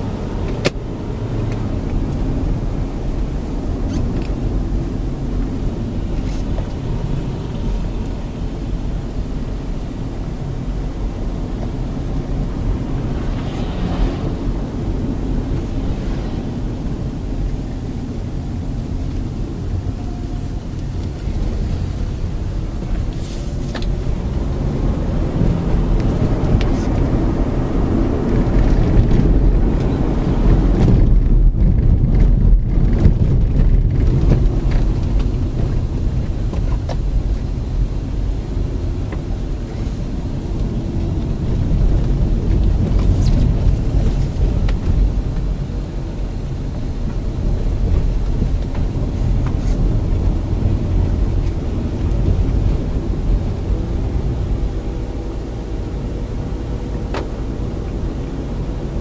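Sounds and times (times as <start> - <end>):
car engine: 0.0 - 59.0
tyres on the road: 0.0 - 59.0
wind: 0.0 - 59.0.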